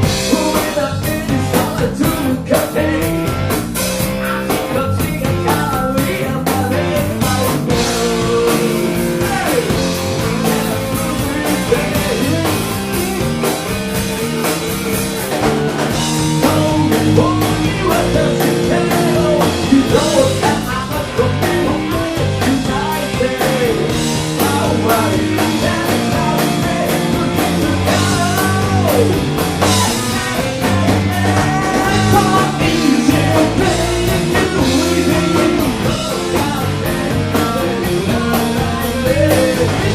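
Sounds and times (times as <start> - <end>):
person singing: 0.0 - 3.5, 4.1 - 39.9
electric guitar: 0.0 - 39.9
rock band playing live: 0.0 - 39.9.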